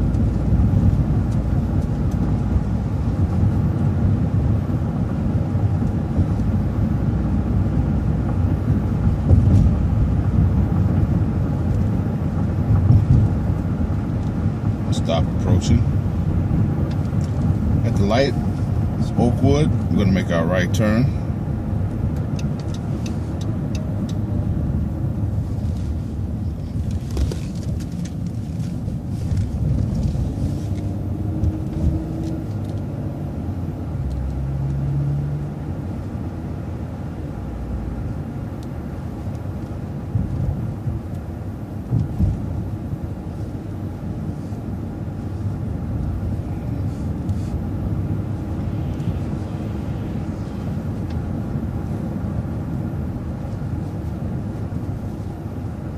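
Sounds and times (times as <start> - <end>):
bus engine and road rumble: 0.0 - 55.9
rising engine whine: 0.0 - 55.9.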